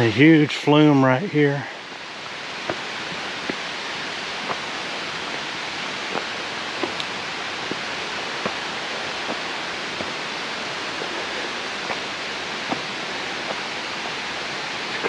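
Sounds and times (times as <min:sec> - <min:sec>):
water rushing through flume: 0:00.0 - 0:15.0.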